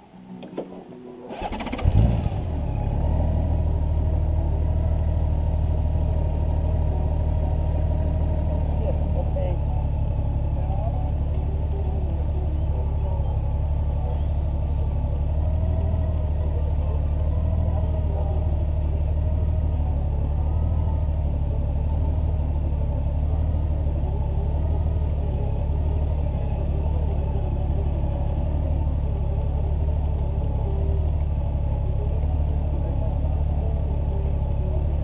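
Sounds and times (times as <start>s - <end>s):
low rumble of road riding: 0.0s - 35.0s.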